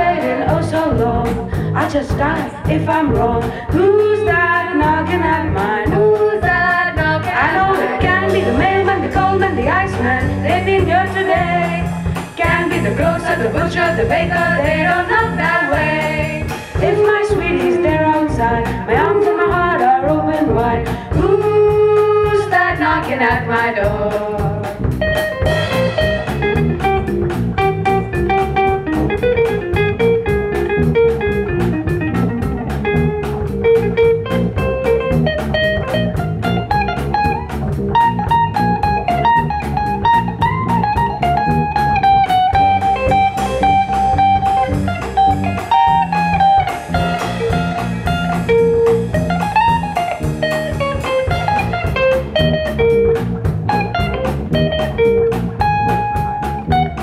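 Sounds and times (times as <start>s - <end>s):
bass line: 0.0s - 57.0s
blues guitar lead: 0.0s - 57.0s
steady drum beat: 0.0s - 57.0s.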